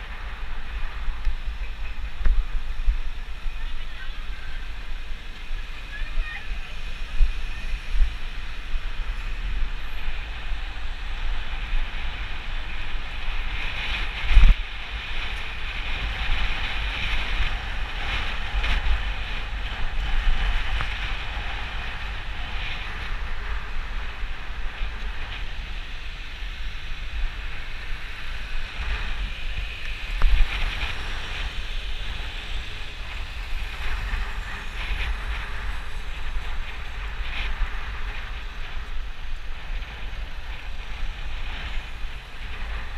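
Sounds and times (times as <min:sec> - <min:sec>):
passing traffic: 0:00.0 - 0:42.9
tyre and road noise: 0:00.0 - 0:42.9
wind buffeting microphone: 0:00.0 - 0:42.9.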